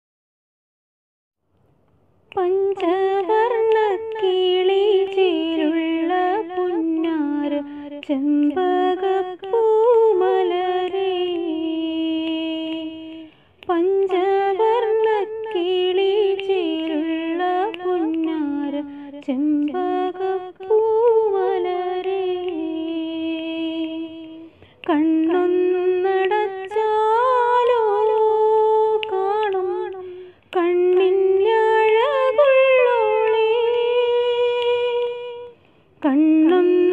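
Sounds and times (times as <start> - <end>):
woman singing unaccompanied: 2.3 - 36.9.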